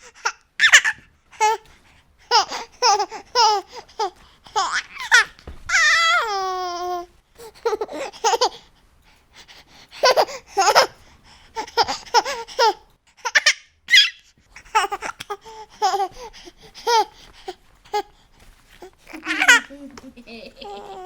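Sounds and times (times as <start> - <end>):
baby laughing: 0.0 - 1.6, 2.3 - 8.6, 10.0 - 11.0, 11.6 - 18.1, 18.8 - 21.0.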